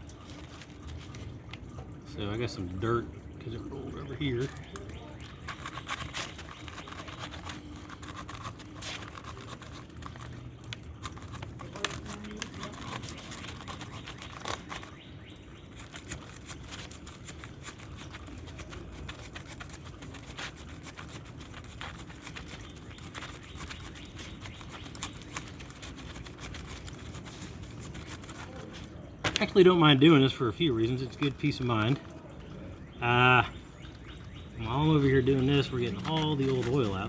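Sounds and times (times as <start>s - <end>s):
oil filter being cut open: 3.6s - 32.9s, 33.6s - 37.0s.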